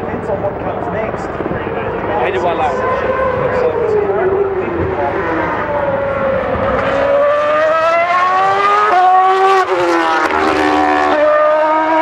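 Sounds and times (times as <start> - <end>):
racing car engine at high revs: 1.3 - 12.0.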